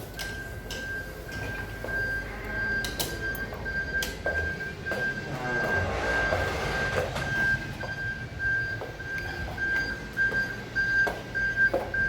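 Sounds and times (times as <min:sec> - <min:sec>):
background noise: 0:00.0 - 0:12.0
pulsing electronic beeping: 0:01.8 - 0:12.0.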